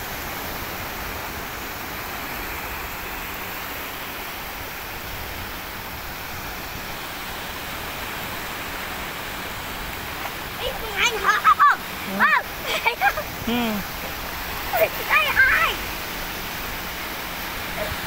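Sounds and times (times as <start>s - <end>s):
sea surf rushing: 0.0s - 18.0s.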